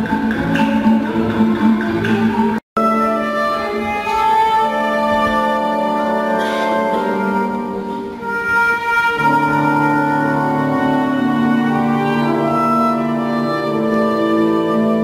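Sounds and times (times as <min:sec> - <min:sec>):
orchestral strings holding long notes: 0:00.0 - 0:15.0.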